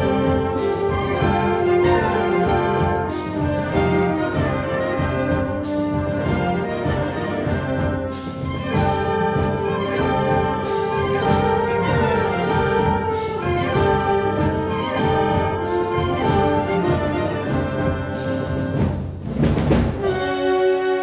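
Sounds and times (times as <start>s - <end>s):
percussion strikes: 0.0s - 21.0s
wind band playing a march: 0.0s - 21.0s.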